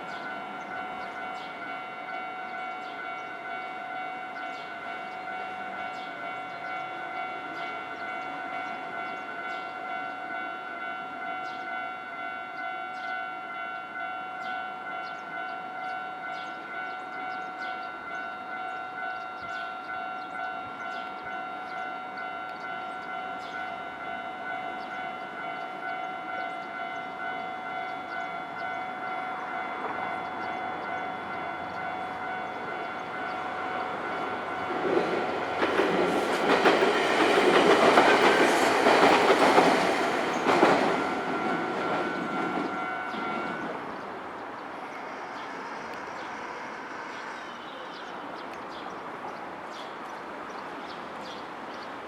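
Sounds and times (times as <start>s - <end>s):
level crossing warning bell ringing: 0.0s - 44.3s.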